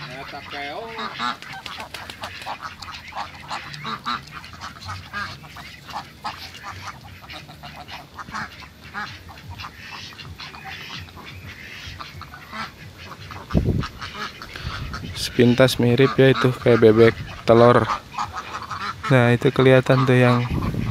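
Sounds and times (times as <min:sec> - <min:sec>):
ducks quacking: 0:00.0 - 0:20.9.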